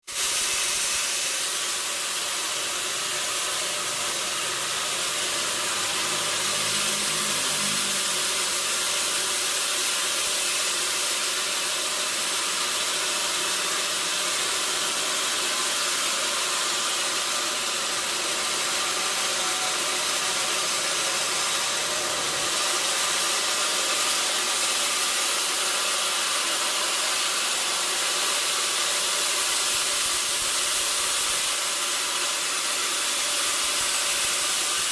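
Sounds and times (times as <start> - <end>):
sawmill machinery running: 0.0 - 34.9.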